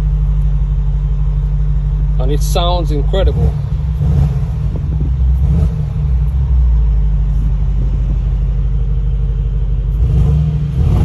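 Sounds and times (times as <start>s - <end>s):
engine deep rumble: 0.0s - 11.0s.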